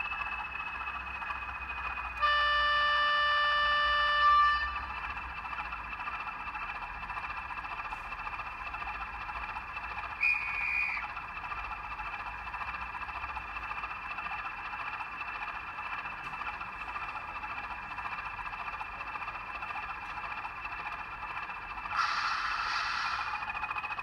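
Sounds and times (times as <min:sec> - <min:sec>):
diesel engine idling through small speaker: 0:00.0 - 0:24.0.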